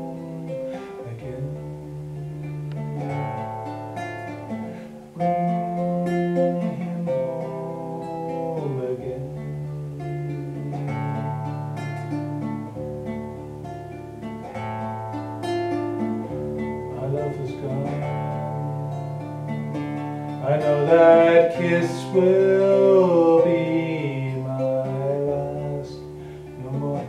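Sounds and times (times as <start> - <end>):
classical guitar plucked chords: 0.0 - 27.0.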